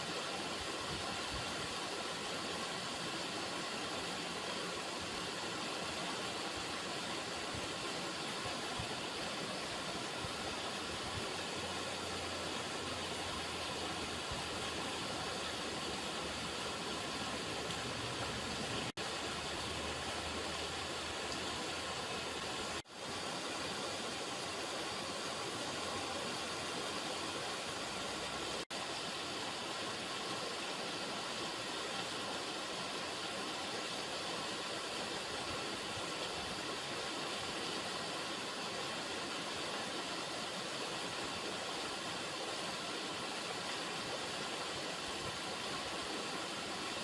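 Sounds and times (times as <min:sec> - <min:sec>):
river water rushing: 0:00.0 - 0:47.0.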